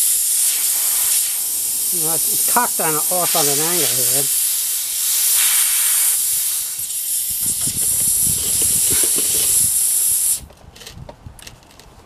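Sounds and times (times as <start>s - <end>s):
air hissing from tire puncture: 0.0s - 10.5s.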